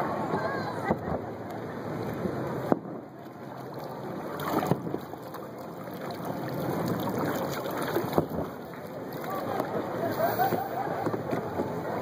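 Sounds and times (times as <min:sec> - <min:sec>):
water lapping around kayak: 0:00.8 - 0:12.0.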